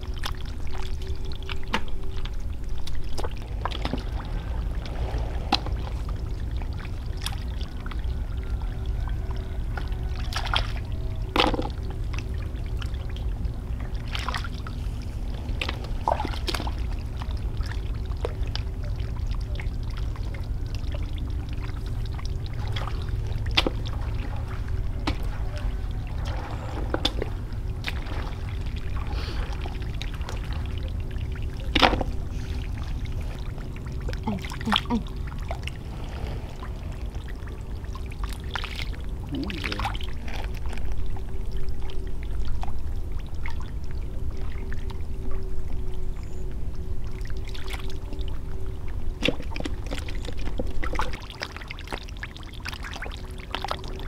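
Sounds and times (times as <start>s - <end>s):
water splashing: 0.0s - 45.8s, 47.0s - 54.0s
steady low rumble: 0.0s - 54.0s.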